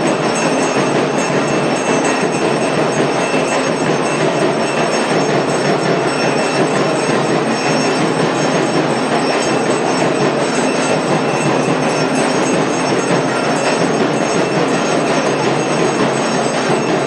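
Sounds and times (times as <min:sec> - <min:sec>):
clanging metal bells: 0:00.0 - 0:17.0
drumming: 0:00.0 - 0:17.0
gongs: 0:00.0 - 0:17.0.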